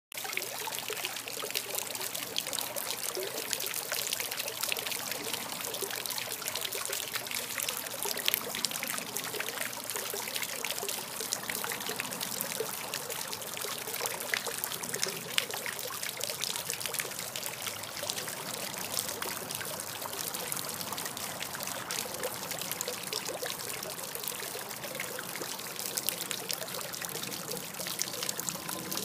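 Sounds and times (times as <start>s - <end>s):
fountain water trickling: 0.1s - 29.0s.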